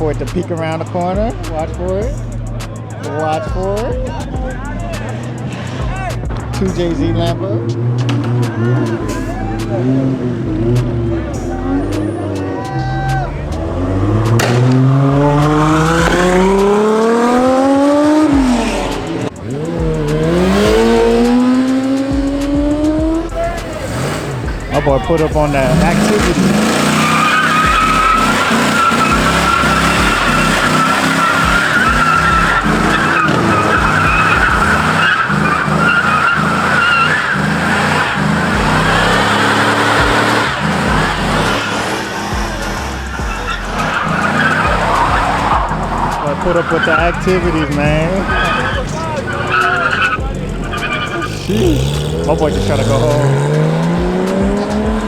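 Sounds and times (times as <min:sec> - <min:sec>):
car engine revving hard: 0:00.0 - 0:55.0
tyres squealing: 0:00.0 - 0:55.0.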